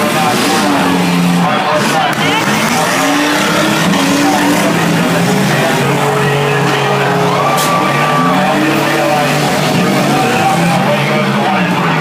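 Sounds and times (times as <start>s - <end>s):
car engines revving: 0.0s - 12.0s
loud music: 0.0s - 12.0s.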